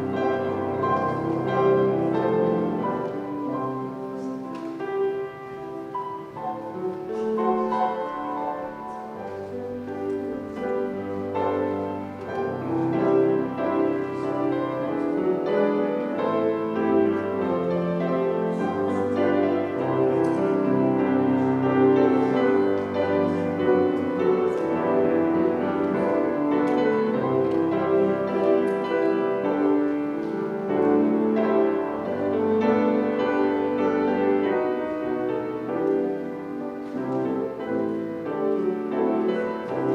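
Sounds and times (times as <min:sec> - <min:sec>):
instrumental piano music: 0:00.0 - 0:39.9.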